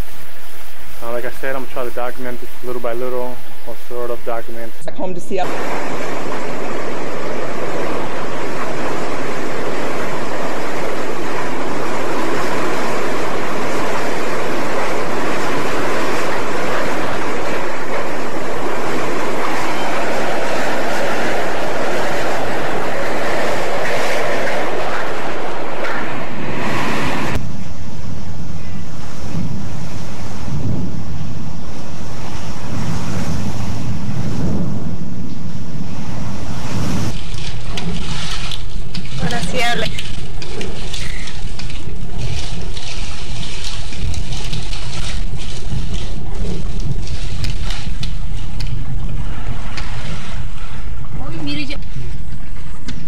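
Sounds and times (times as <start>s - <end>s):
hurricane wind and water rushing: 0.0s - 53.0s
wind buffeting microphone: 0.0s - 53.0s.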